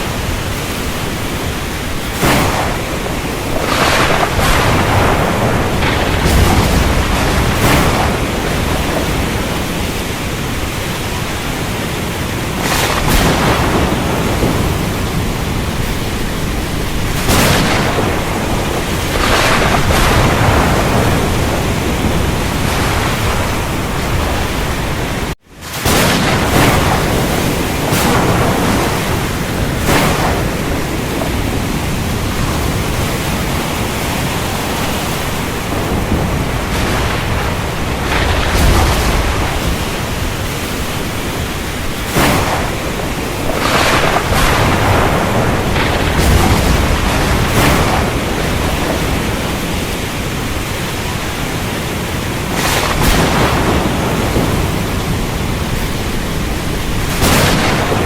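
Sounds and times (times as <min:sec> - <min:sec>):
heavy rain: 0:00.0 - 0:58.0
thunderclaps: 0:00.0 - 0:58.0.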